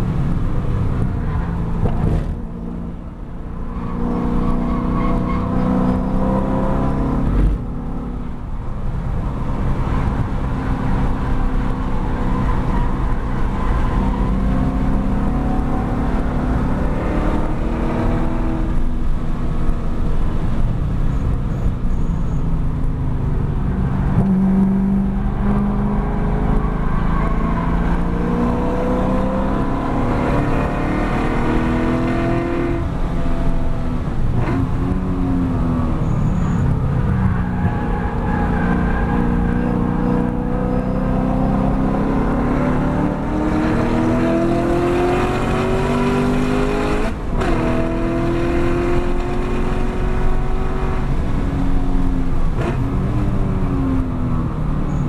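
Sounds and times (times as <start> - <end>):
car engine accelerating: 0.0 - 55.0
wind and tyre roar: 0.0 - 55.0.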